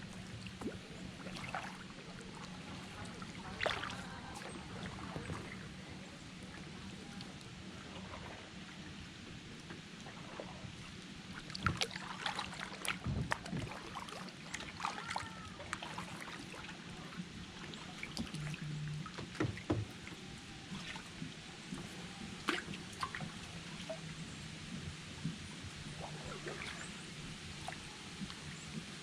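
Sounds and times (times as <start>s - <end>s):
moving water: 0.0s - 29.0s
paddle splashes and drips: 0.0s - 29.0s.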